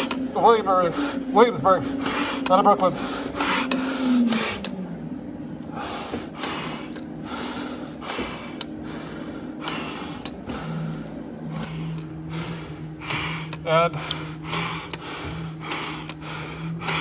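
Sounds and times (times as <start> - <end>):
man breathing heavily: 0.0 - 17.0
steady low hum: 0.0 - 17.0.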